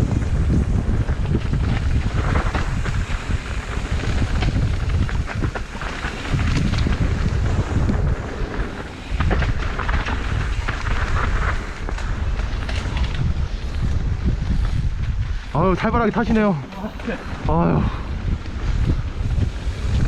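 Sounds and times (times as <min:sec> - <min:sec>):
bike rattles and knocks: 0:00.0 - 0:17.6
wind buffeting microphone: 0:00.0 - 0:20.0.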